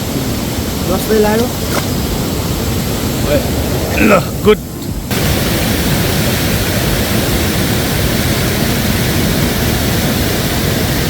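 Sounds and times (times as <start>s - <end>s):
fast-flowing river rushing: 0.0s - 11.0s.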